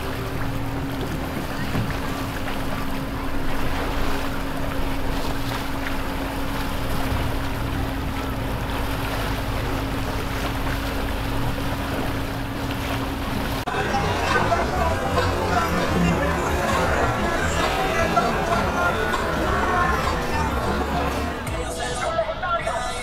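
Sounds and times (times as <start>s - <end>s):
steady hum: 0.0s - 22.7s
boat engines running: 0.0s - 23.0s
wash of waves: 0.0s - 23.0s.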